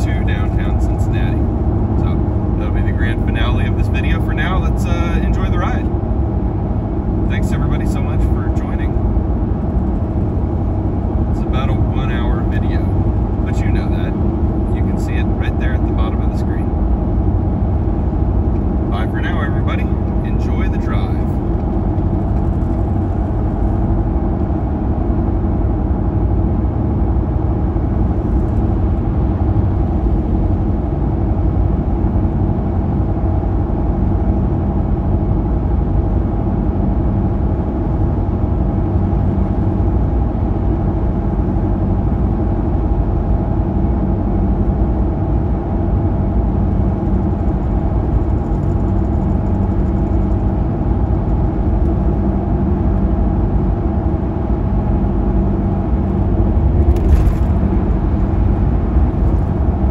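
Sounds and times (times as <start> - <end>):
car cabin engine and road drone: 0.0 - 59.9.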